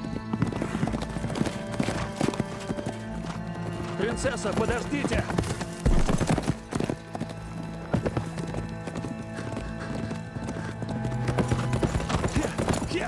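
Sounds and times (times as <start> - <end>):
horses galloping on soft earth: 0.0 - 13.0
low background music: 0.0 - 13.0.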